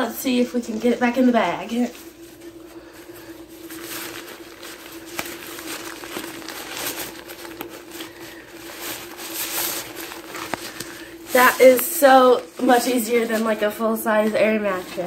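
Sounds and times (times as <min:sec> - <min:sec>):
faint steady hum: 0:00.0 - 0:15.0
nylon fabric rustling: 0:00.0 - 0:15.0.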